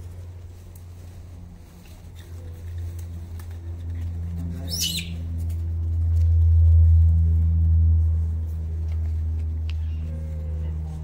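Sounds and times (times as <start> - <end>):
low droning hum: 0.0 - 11.0.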